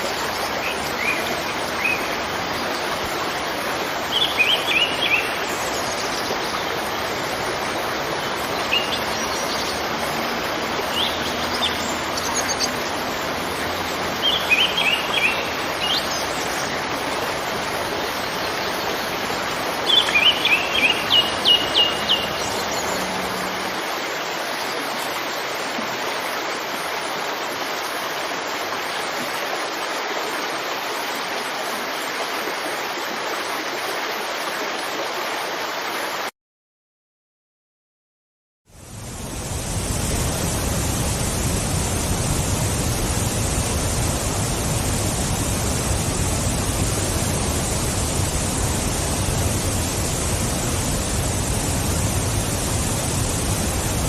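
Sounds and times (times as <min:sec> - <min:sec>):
waterfall rushing: 0:00.0 - 0:36.3, 0:38.7 - 0:54.0.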